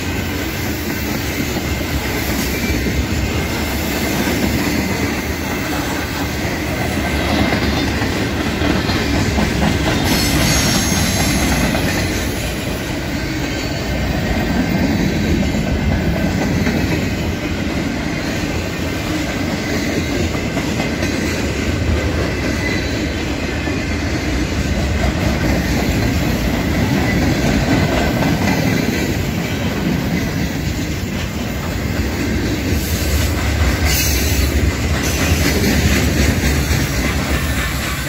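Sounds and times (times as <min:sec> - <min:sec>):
freight train cars rolling past: 0:00.0 - 0:38.0
steel wheels clattering on rails: 0:00.0 - 0:38.0.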